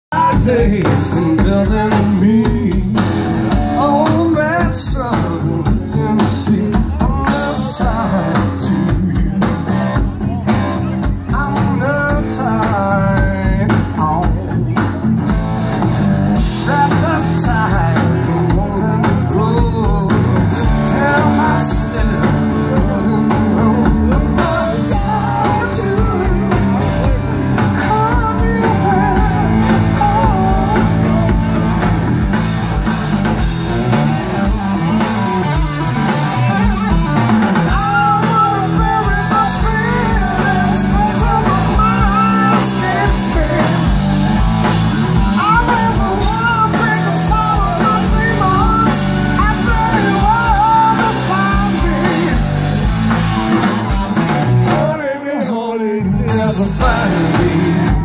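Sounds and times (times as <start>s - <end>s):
bass: 0.0s - 58.0s
drums: 0.0s - 58.0s
electric guitar lead bending notes: 0.1s - 55.1s, 55.8s - 58.0s.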